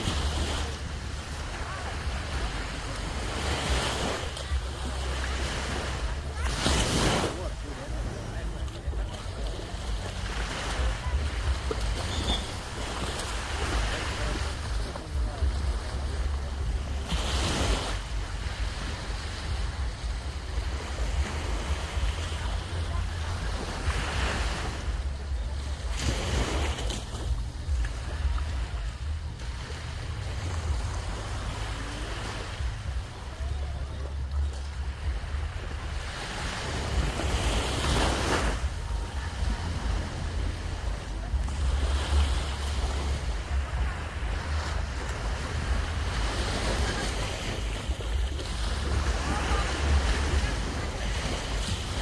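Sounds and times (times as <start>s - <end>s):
surf washing onto beach: 0.0s - 52.0s
wind rumbling on microphone: 0.0s - 52.0s.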